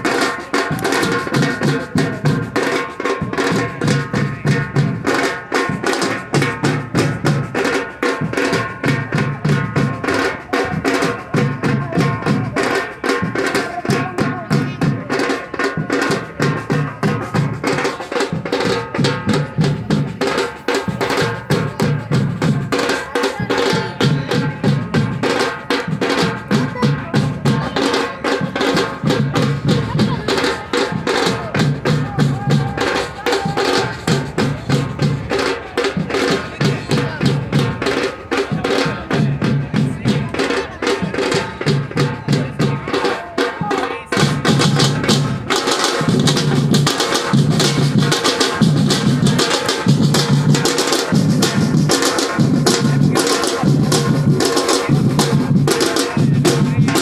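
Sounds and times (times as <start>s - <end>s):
metal drums playing: 0.0s - 57.0s.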